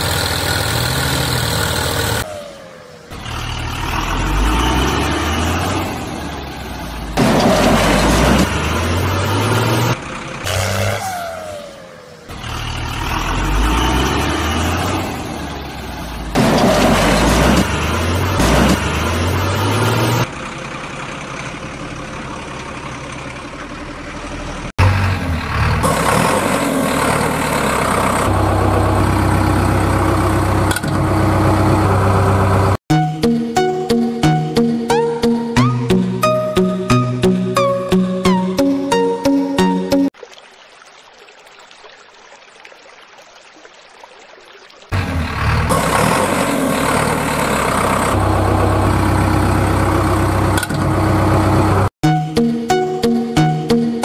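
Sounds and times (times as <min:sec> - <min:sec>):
heavy engine running: 0:00.0 - 0:11.1, 0:11.9 - 0:39.3, 0:45.0 - 0:54.0.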